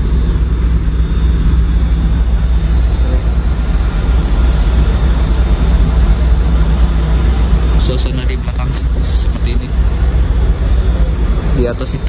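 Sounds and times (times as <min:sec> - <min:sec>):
faint high whine: 0:00.0 - 0:12.0
ship engine low rumble: 0:00.0 - 0:12.0.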